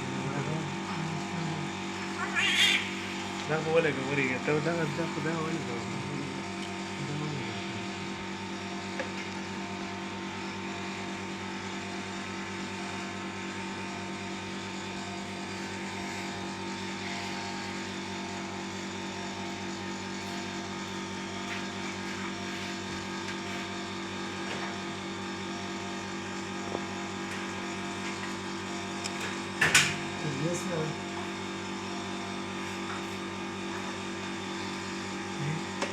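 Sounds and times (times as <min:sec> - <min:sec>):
steady machine hum: 0:00.0 - 0:35.9.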